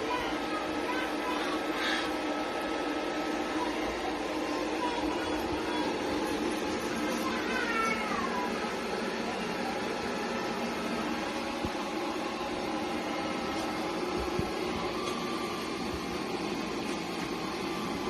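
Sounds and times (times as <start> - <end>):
robot vacuum motor hum: 0.9 - 18.0.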